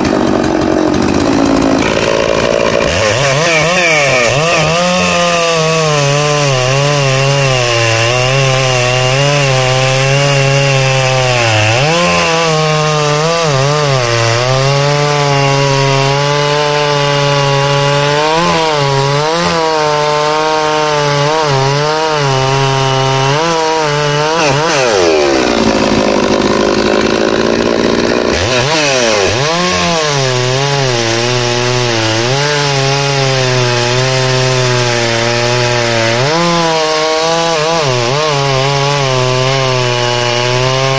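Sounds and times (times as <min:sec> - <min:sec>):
chainsaw cutting through log: 0:00.0 - 0:40.9.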